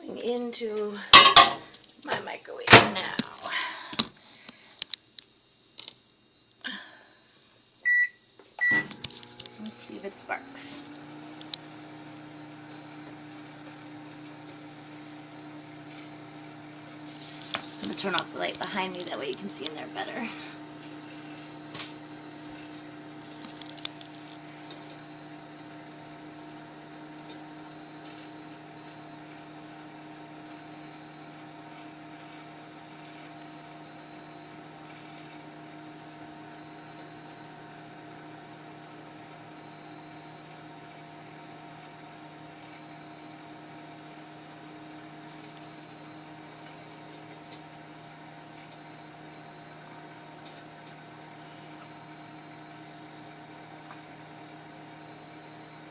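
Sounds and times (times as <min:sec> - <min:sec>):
microwave oven humming: 0:00.1 - 0:04.7, 0:07.8 - 0:55.9.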